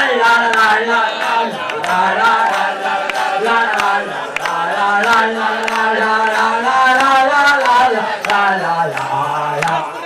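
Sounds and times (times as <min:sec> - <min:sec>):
group of people singing: 0:00.0 - 0:10.0
hand claps: 0:00.0 - 0:10.0.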